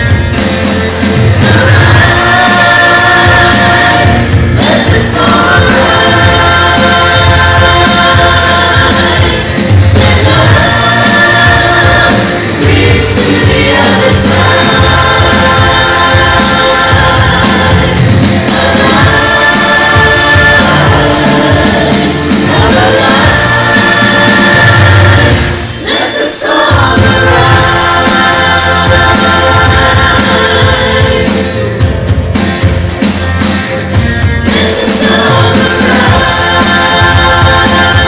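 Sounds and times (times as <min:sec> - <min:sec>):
group singing into microphones: 0:00.0 - 0:33.1, 0:33.7 - 0:38.0
band playing: 0:00.0 - 0:38.0.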